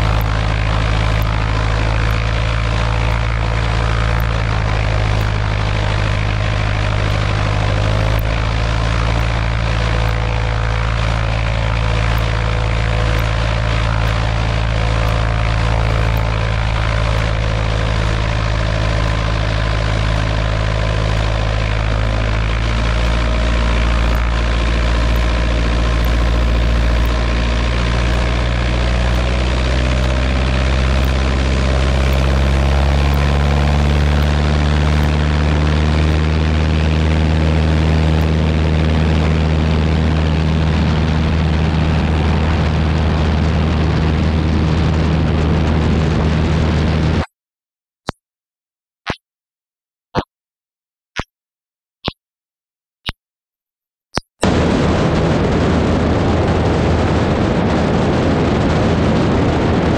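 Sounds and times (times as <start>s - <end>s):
light plane engine and propeller: 0.0s - 47.3s, 54.4s - 59.9s.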